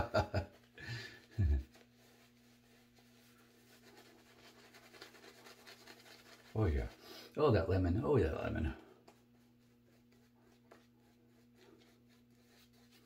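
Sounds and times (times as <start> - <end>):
shaving brush scratching stubble: 0.4 - 13.0.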